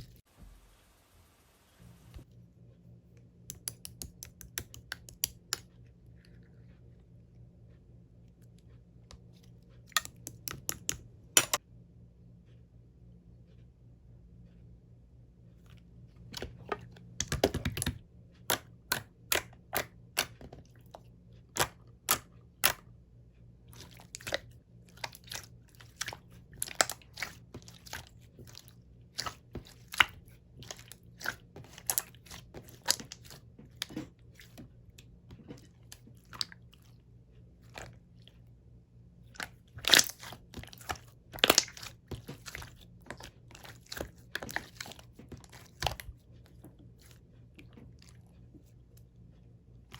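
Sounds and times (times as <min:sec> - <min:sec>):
slime squishing with wet clicks: 0:03.1 - 0:11.6, 0:15.6 - 0:49.9.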